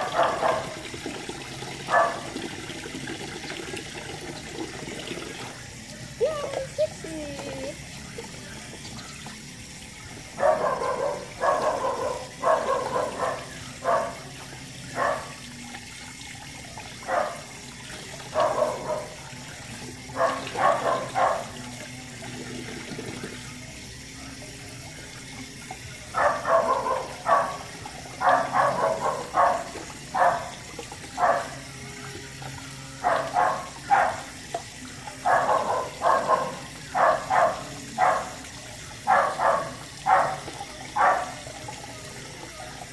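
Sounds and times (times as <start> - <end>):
water trickling: 0.0 - 42.9.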